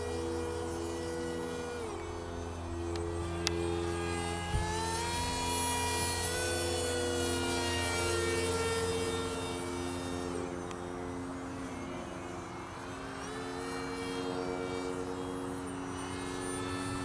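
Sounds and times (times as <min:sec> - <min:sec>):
model jet motor whining: 0:00.0 - 0:17.0
steady low hum: 0:00.0 - 0:17.0.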